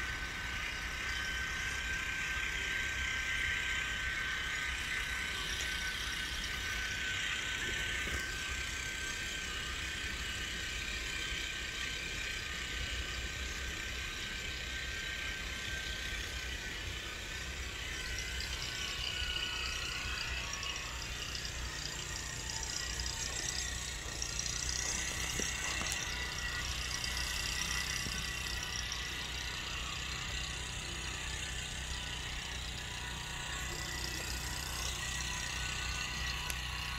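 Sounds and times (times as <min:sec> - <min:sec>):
distant tiller engine running: 0:00.0 - 0:36.9.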